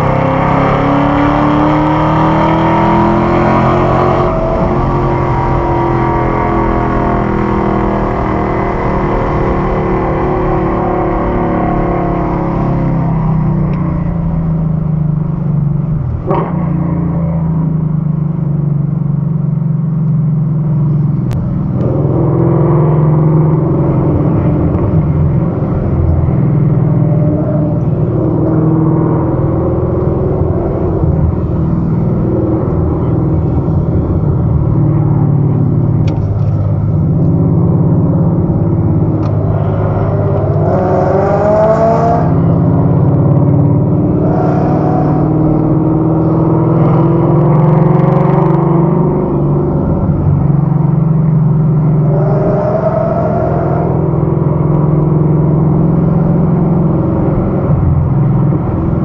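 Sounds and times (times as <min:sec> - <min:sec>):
car engine running at low revs: 0:00.0 - 0:59.0.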